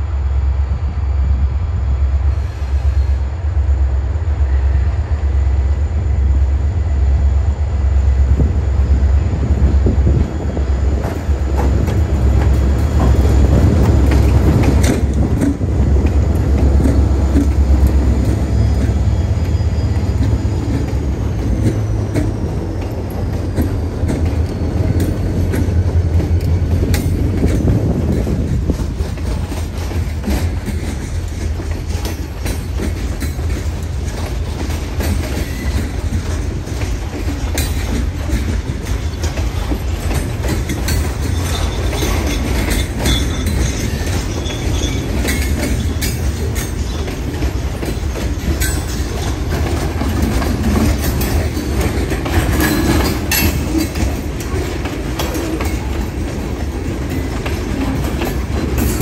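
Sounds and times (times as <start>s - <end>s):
train wheels rumbling on rails: 0.0s - 59.0s
wheels clicking over rail joints: 11.0s - 59.0s.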